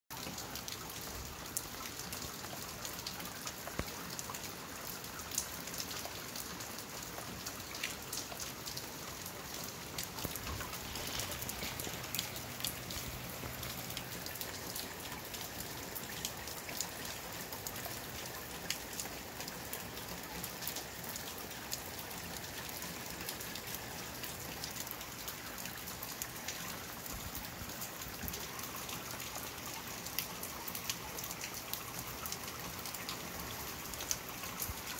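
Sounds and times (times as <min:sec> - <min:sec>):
raindrops ticking: 0:00.1 - 0:34.9
steady rain hiss: 0:00.1 - 0:34.9.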